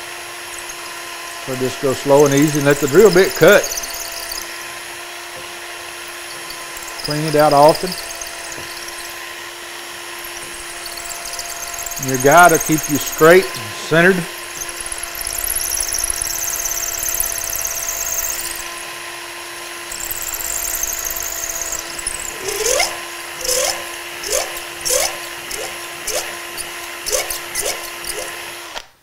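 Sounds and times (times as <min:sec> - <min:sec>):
hiss of cutting wood: 0:00.0 - 0:28.8
drill bit squeaking: 0:00.0 - 0:28.9
power drill boring into wood: 0:00.0 - 0:29.0.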